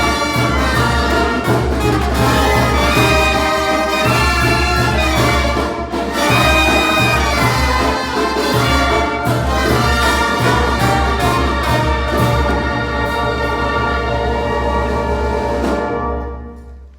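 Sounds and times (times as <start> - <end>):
pulsing brass bass line: 0.0 - 5.6, 6.2 - 16.6
trumpets and trombones holding chords: 0.0 - 16.9.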